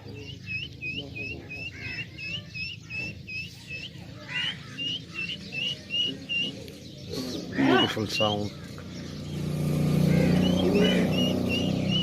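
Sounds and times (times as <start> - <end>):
guineafowl chicks peeping: 0.0 - 12.0.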